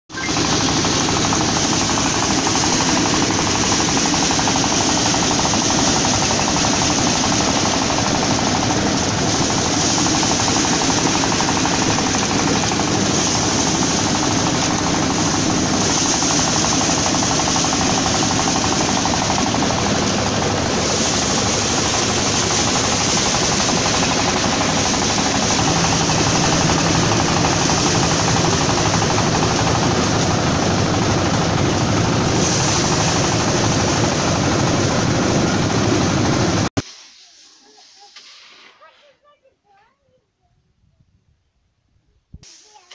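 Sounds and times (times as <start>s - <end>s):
thresher engine chattering: 0.1s - 36.7s.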